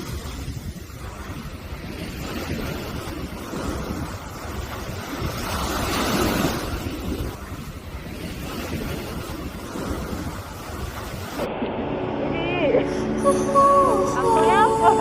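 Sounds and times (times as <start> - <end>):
sea waves breaking on beach: 0.0 - 15.0
wind buffeting microphone: 0.0 - 15.0.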